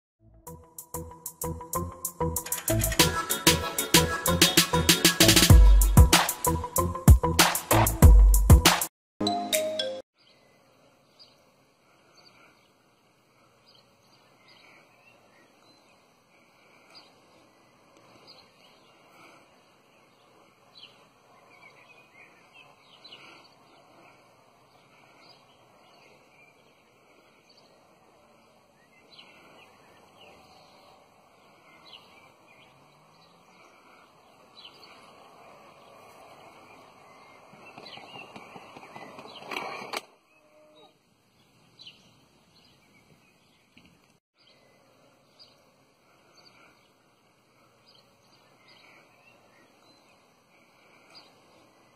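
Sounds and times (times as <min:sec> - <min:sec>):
faint outdoor background: 0:00.2 - 0:51.9
small birds chirping: 0:10.2 - 0:51.9.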